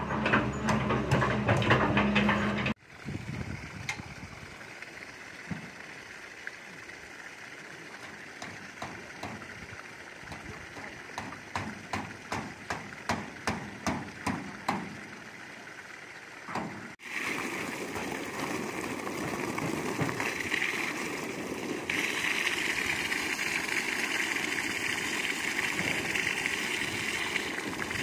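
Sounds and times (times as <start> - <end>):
even water pulses: 2.7 - 28.0
water gushing from pipe into pond: 2.7 - 28.0.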